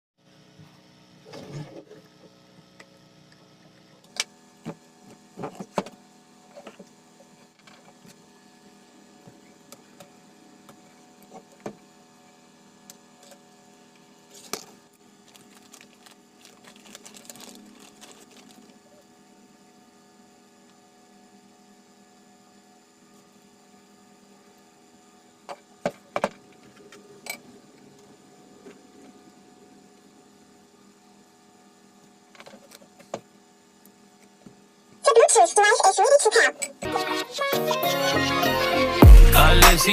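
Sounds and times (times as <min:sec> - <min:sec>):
faint electrical hum: 0:00.2 - 0:36.8.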